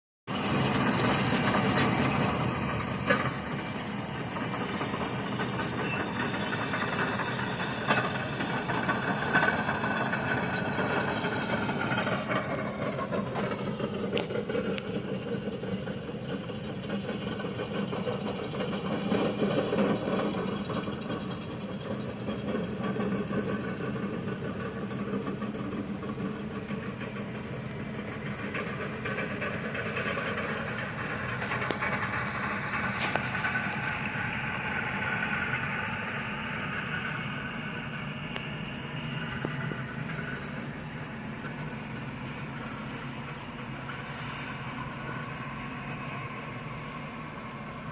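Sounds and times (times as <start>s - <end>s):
heavy diesel machines running: 0.3s - 47.9s.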